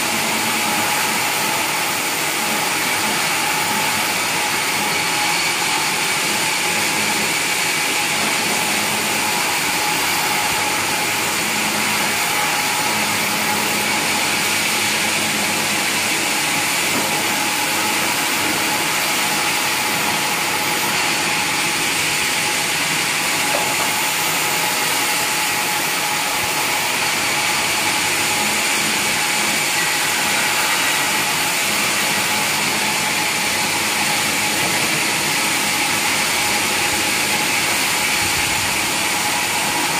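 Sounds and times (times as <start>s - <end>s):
sawmill machinery with high whine: 0.0s - 39.9s.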